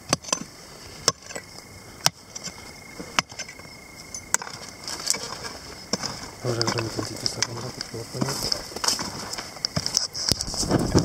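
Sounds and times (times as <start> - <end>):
metal tool striking stony earth: 0.0 - 10.8.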